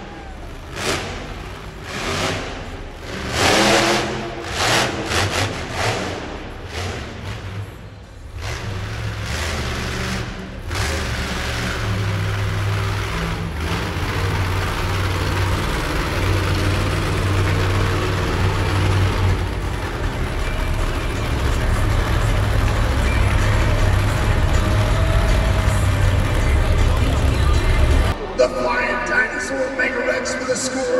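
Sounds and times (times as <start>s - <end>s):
monster truck engine rumbling: 0.0s - 30.9s.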